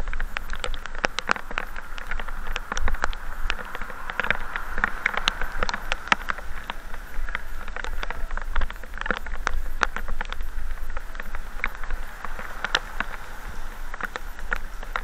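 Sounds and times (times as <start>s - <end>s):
raindrops tapping: 0.0s - 15.0s
vehicle rumble: 0.3s - 15.0s.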